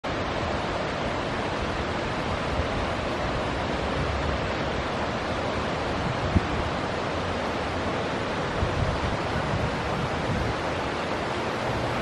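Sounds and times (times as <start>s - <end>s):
wind on microphone: 0.2s - 12.0s.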